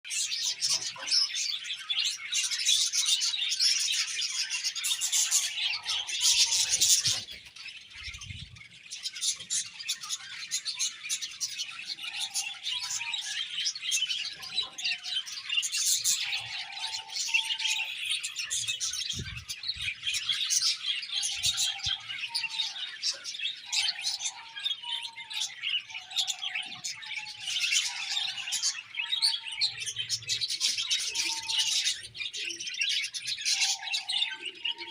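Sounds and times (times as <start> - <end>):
flock of budgerigars chirping: 0.1 - 34.9.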